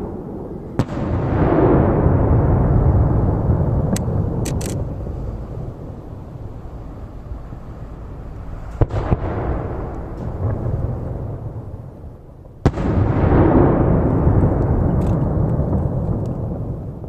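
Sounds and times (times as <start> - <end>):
rolling rumble of echo: 0.0 - 17.0.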